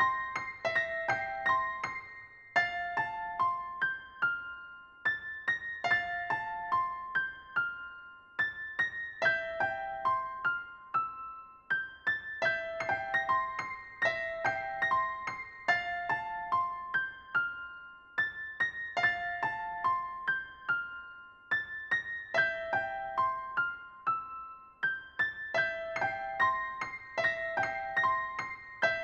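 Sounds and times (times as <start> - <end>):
electric piano melody: 0.0 - 29.0.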